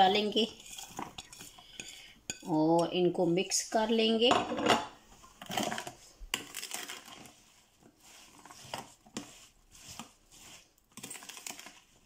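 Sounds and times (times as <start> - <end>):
spoon scraping plastic bowl: 0.0 - 3.9, 4.9 - 12.0.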